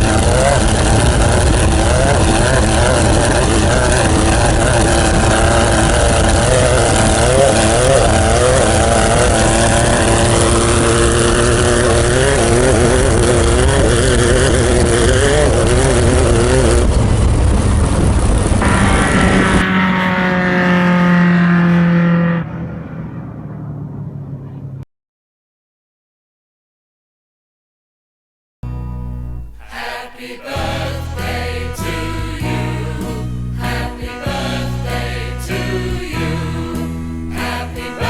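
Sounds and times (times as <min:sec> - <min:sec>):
race truck engine revving: 0:00.0 - 0:24.8, 0:29.4 - 0:38.0
road and wind noise: 0:00.0 - 0:24.8, 0:30.5 - 0:38.0.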